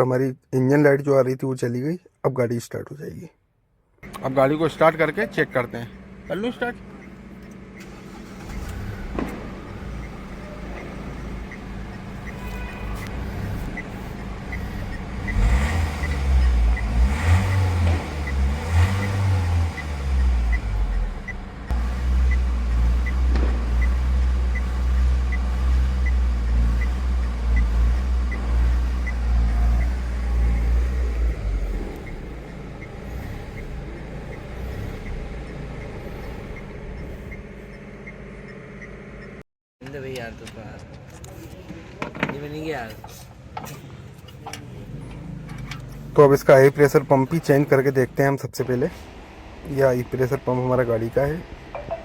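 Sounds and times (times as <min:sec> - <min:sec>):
diesel engine starting and revving: 0:04.0 - 0:39.5, 0:42.6 - 0:52.0.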